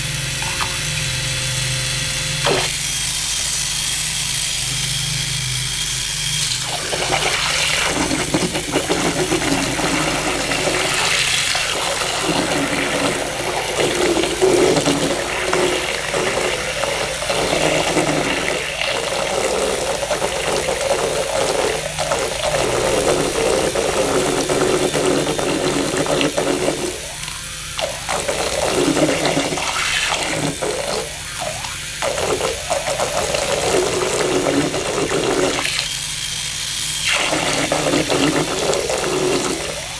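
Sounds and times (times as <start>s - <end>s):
small motor whirring: 0.0s - 39.9s
propeller churning water: 6.4s - 39.9s.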